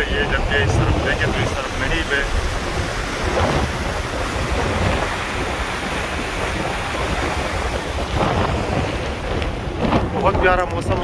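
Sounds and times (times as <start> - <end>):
open sea rushing: 0.0 - 11.0
ship's wake churning: 0.0 - 11.0
wind buffeting microphone: 0.0 - 11.0.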